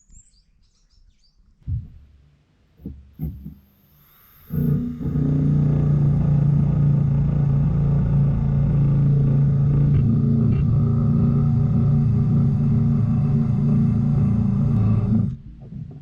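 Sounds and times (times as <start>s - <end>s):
machine droning hum: 1.6s - 16.0s.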